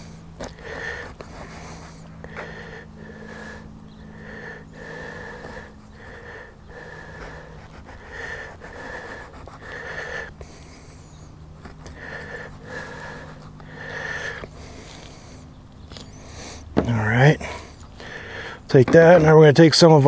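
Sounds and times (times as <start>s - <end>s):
man breathing heavily: 0.0s - 19.2s.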